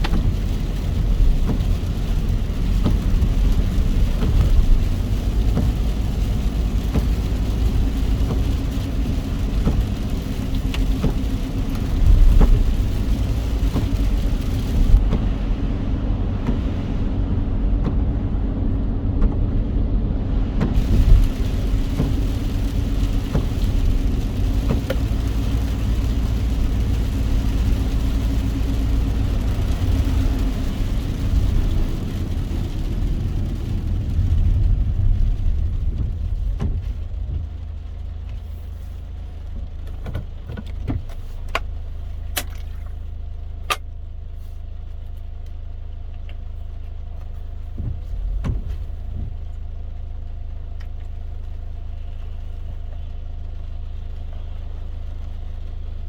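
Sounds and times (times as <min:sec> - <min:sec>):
wet tyre hiss: 0:00.0 - 0:44.9
car engine and road rumble: 0:00.0 - 0:56.0
car engine idling hum: 0:00.0 - 0:56.0.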